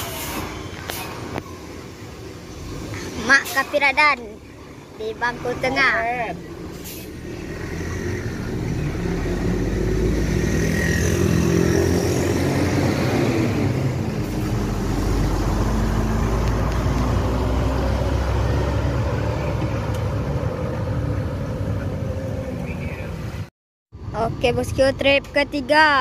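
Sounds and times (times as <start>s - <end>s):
diesel bus engine pulling away: 0.0s - 23.4s.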